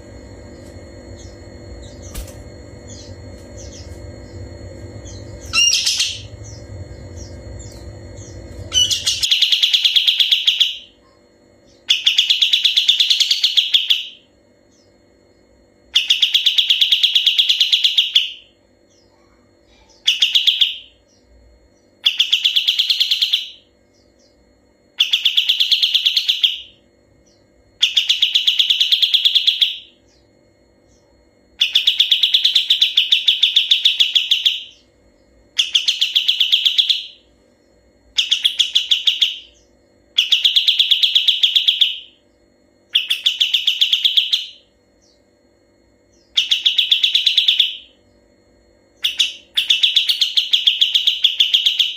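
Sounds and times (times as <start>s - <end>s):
bird singing rattling trill: 0.5s - 51.9s.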